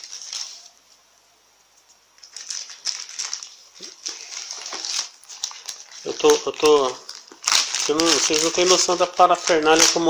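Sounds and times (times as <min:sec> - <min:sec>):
plastic mailer bag crinkling: 0:00.0 - 0:00.8, 0:02.2 - 0:10.0.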